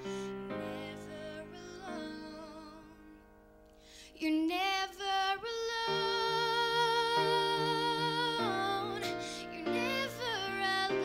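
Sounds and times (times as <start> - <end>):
woman singing a ballad: 0.0 - 11.0.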